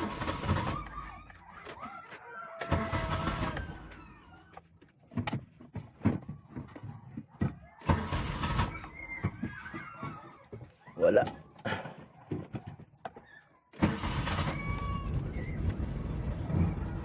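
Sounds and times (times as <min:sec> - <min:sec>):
car engine cranking: 0:00.0 - 0:11.6, 0:13.3 - 0:17.0.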